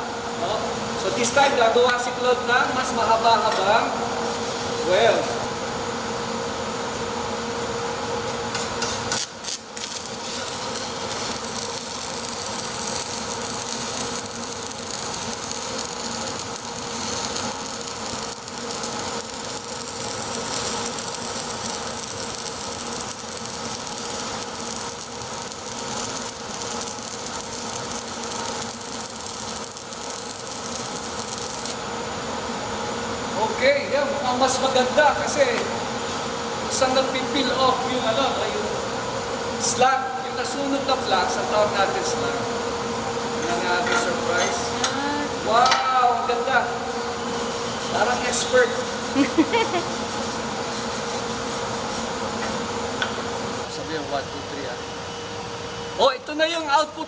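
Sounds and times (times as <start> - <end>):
welding arc crackling and hissing: 1.0 - 1.8, 2.7 - 5.5, 8.4 - 35.8, 36.6 - 54.7.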